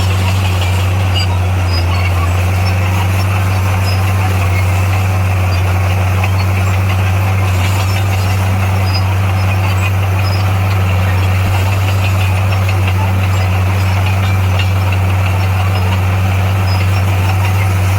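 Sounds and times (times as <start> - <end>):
heavy diesel engine droning: 0.0 - 17.9.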